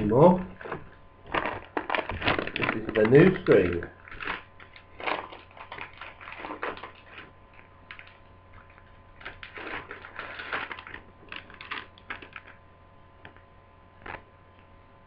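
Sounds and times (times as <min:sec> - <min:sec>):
packaging rustling and crinkling: 0:00.0 - 0:12.6.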